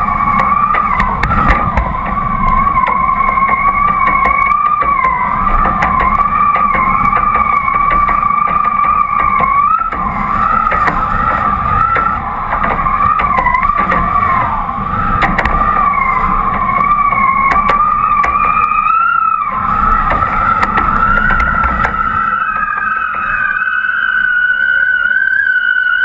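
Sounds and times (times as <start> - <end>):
rush of wind and water: 0.0 - 22.8
hydrofoil high whine: 0.0 - 26.0.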